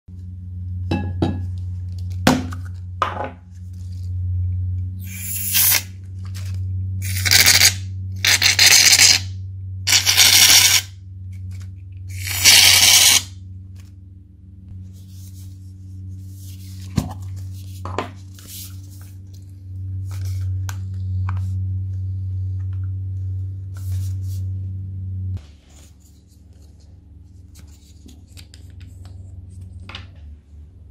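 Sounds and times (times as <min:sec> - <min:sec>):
low steady hum: 0:00.1 - 0:30.9.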